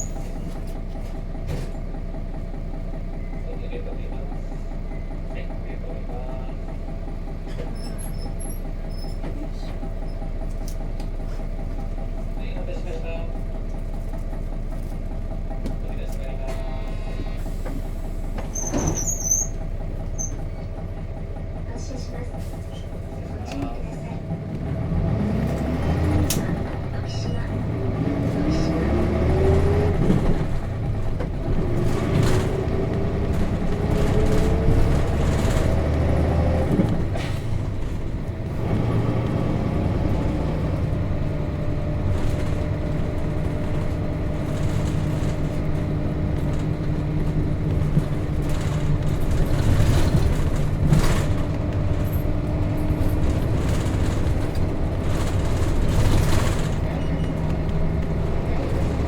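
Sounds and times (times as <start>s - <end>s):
bus diesel engine accelerating: 0.0s - 59.0s.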